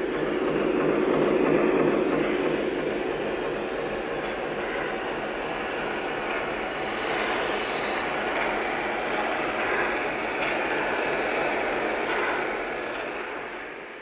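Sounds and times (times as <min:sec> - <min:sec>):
locomotive idling hiss: 0:00.0 - 0:14.0.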